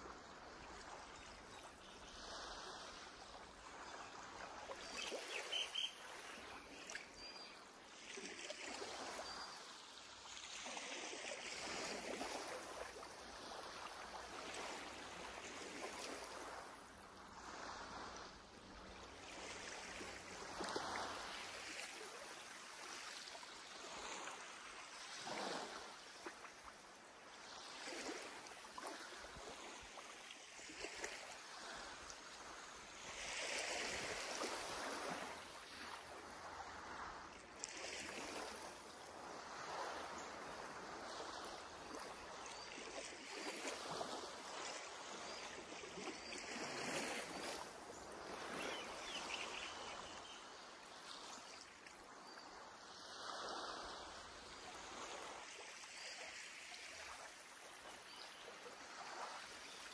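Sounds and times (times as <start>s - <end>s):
sea waves washing onto beach: 0.0s - 59.9s.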